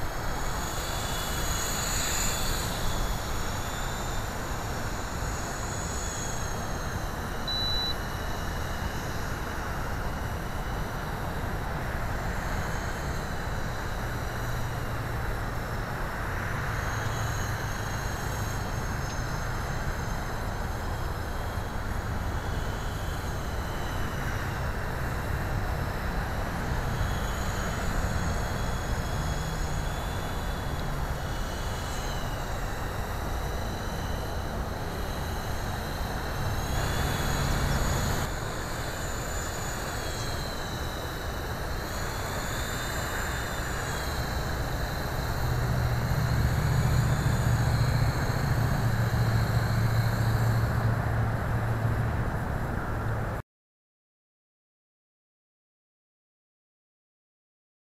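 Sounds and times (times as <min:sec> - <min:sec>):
rc helicopter motor whine: 0:00.0 - 0:53.4
rushing rotor noise: 0:00.0 - 0:53.4.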